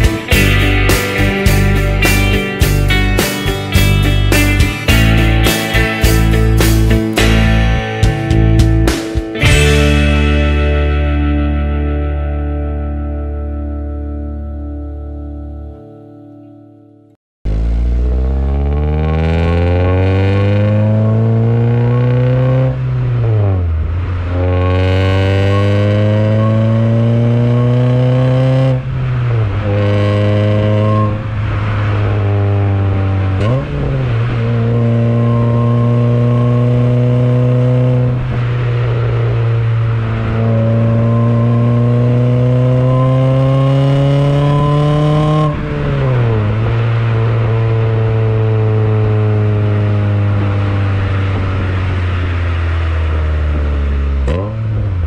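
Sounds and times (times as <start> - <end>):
car engine accelerating: 0.0 - 16.9, 17.5 - 55.0.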